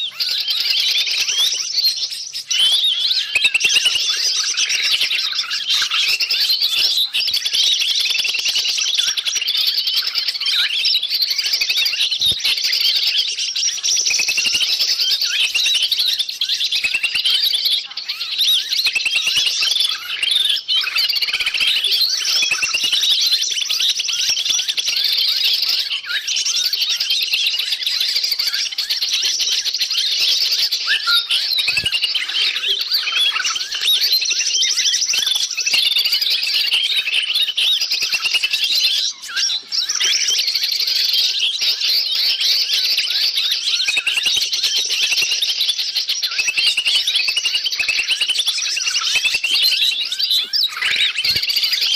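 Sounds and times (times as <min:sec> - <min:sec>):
many small birds chirping: 0:00.0 - 0:51.9.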